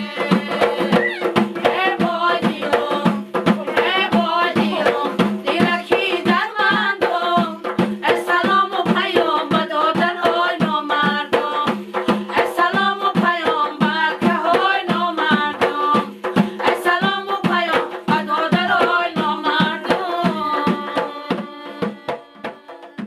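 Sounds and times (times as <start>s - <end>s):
frame drums beating: 0.0s - 23.0s
woman singing: 0.0s - 23.0s.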